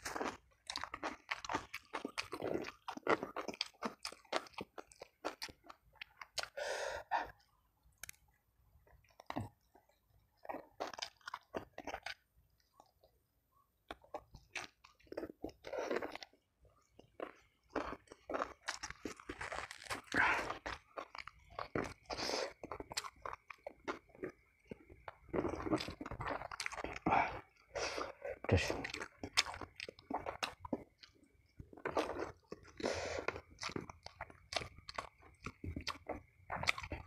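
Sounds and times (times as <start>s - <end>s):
crunching and chewing food: 0.0s - 37.0s.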